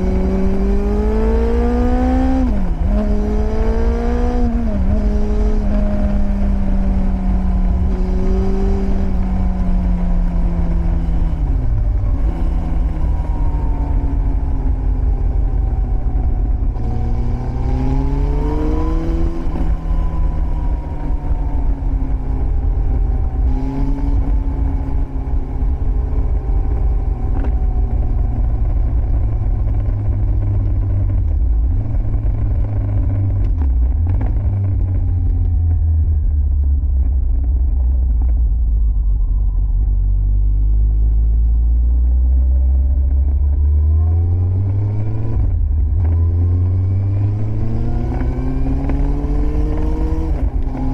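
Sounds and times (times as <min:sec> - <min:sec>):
motorcycle engine revving: 0:00.0 - 0:38.2, 0:40.4 - 0:50.9
low rumble: 0:00.0 - 0:50.9.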